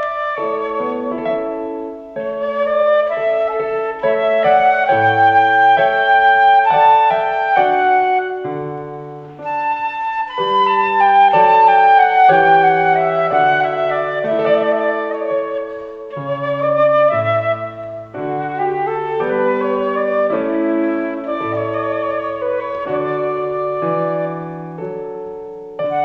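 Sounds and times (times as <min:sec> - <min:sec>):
flute melody: 0:00.0 - 0:26.0
piano accompaniment: 0:00.0 - 0:26.0.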